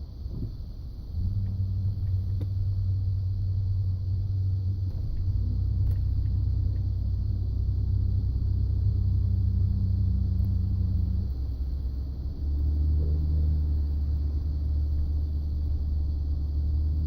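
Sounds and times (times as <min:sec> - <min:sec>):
pickup truck engine drone: 0:00.0 - 0:17.0.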